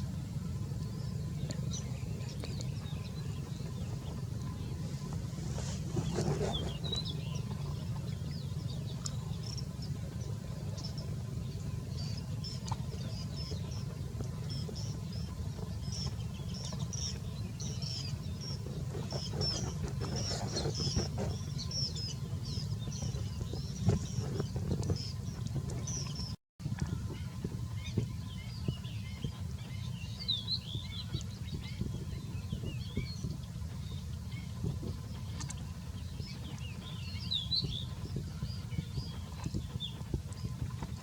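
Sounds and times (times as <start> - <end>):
low rumble: 0.0 - 41.0
small birds chirping: 0.5 - 41.0.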